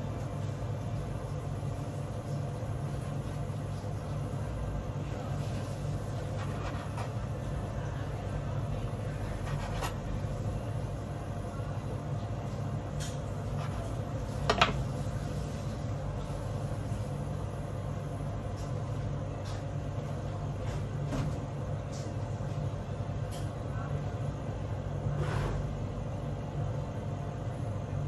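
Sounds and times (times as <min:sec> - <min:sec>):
low hum of kitchen equipment: 0:00.0 - 0:28.0.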